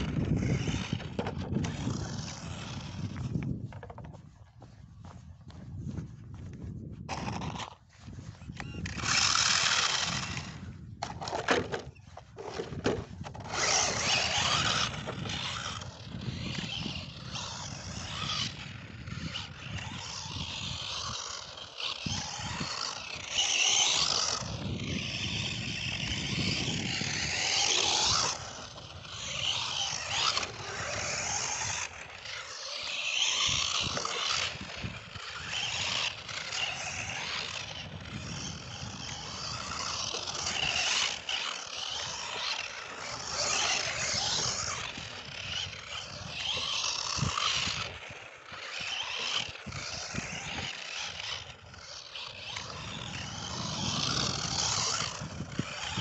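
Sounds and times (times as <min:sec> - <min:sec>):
toy car electric motor whining: 0:00.0 - 0:04.4, 0:07.0 - 0:56.0
tyres crunching on dirt: 0:00.0 - 0:56.0.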